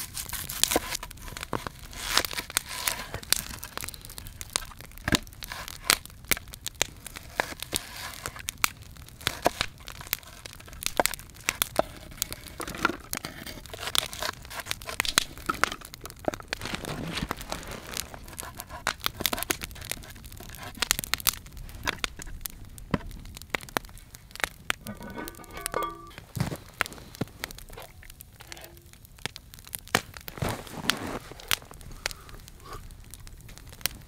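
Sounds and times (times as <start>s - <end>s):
crackling campfire: 0.0s - 34.0s.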